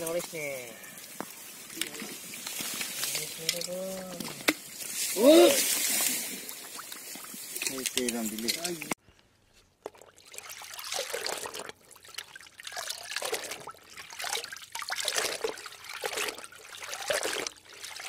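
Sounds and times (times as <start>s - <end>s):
water trickling and splashing: 0.0s - 9.0s, 9.8s - 18.0s.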